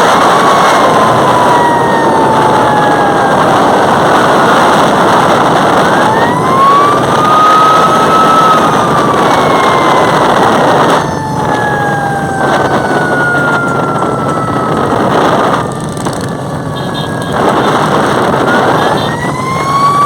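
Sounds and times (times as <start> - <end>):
loud steady rush of noise: 0.0 - 20.0
siren wailing: 0.0 - 20.0.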